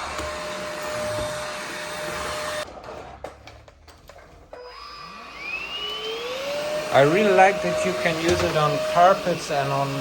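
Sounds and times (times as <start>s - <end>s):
vacuum cleaner motor whining: 0.0s - 2.7s, 4.5s - 10.0s.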